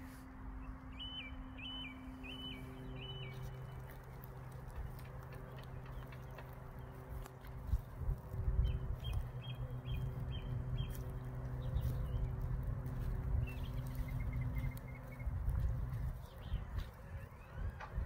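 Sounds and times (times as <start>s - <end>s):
low engine hum: 0.0s - 18.0s
low rumble on microphone: 0.0s - 18.0s
small birds chirping: 0.4s - 18.0s.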